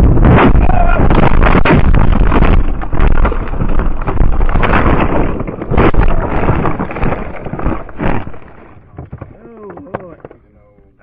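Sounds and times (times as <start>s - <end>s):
wind buffeting microphone: 0.0s - 9.3s
irregular knocks: 1.1s - 10.5s.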